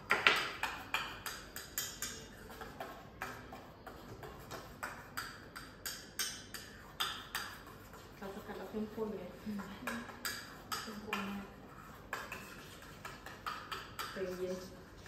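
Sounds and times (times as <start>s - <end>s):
utensil stirring in metal pot: 0.0s - 15.0s.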